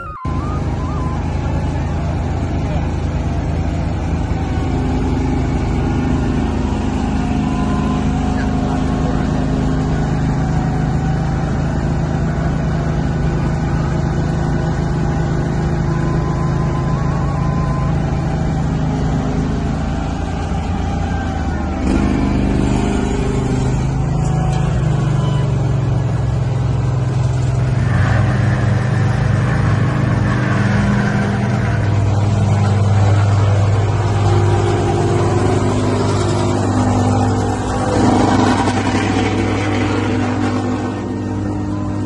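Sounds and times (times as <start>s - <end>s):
asphalt paver diesel engine: 0.0s - 42.0s
road roller engine running: 0.0s - 42.0s.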